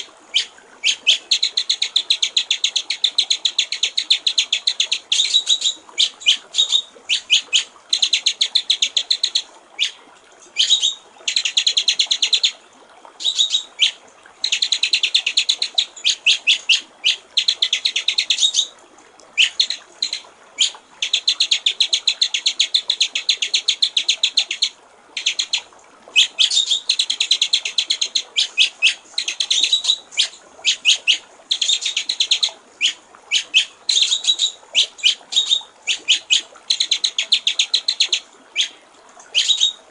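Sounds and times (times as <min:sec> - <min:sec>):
songbird singing rapid runs: 0:00.0 - 0:10.0, 0:10.6 - 0:12.6, 0:13.2 - 0:18.7, 0:19.4 - 0:39.9
water trickling: 0:00.0 - 0:39.9.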